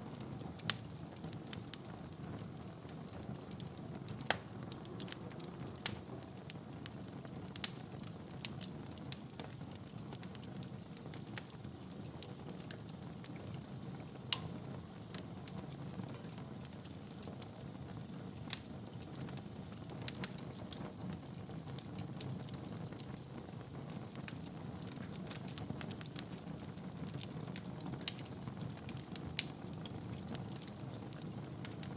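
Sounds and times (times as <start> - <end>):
fire crackling and popping: 0.0 - 31.9
fire flames rustling: 0.0 - 31.9.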